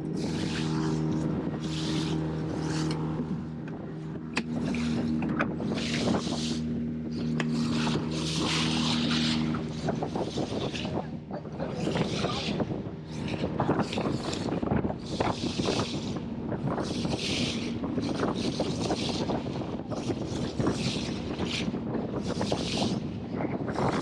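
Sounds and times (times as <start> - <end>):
boat engine running: 0.0 - 24.0
water slapping against hull: 0.0 - 24.0.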